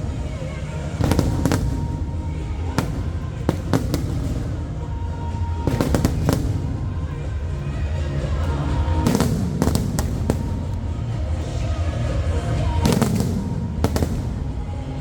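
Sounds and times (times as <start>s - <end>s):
continuous low rumble: 0.0s - 15.0s
fireworks bursting: 0.0s - 15.0s
music playing: 0.0s - 15.0s.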